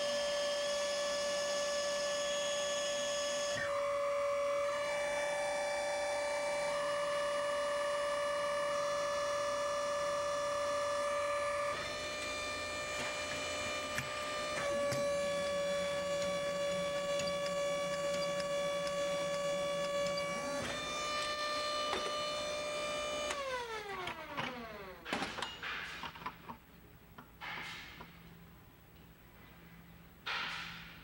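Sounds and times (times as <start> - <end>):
hydraulic motor whining: 0.0 - 25.2.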